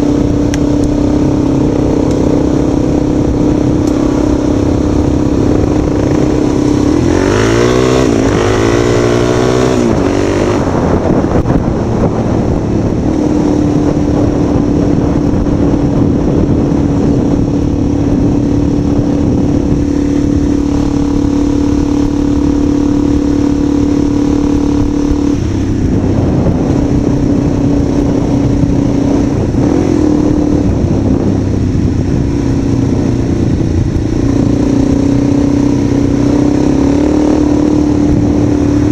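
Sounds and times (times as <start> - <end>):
vehicle engine revving: 0.0 - 38.9.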